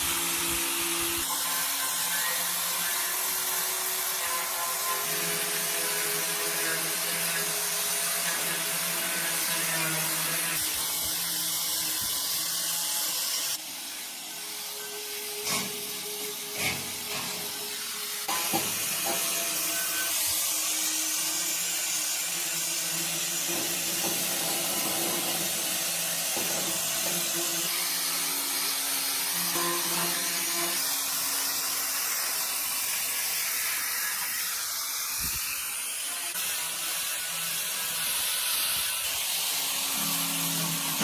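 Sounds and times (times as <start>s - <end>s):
hissing machine noise: 0.0s - 41.0s.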